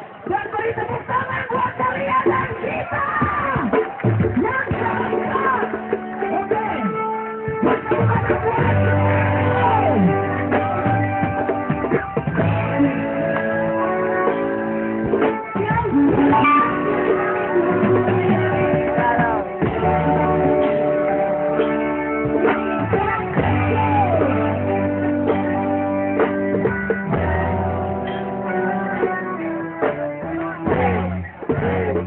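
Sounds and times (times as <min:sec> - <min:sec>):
strummed guitars: 0:01.2 - 0:32.0
person singing: 0:04.4 - 0:32.0.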